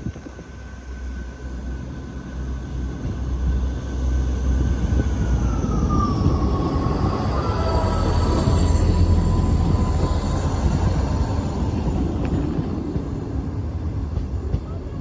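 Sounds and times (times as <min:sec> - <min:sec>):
high train whine: 0:00.0 - 0:15.0
train approaching: 0:00.1 - 0:15.0.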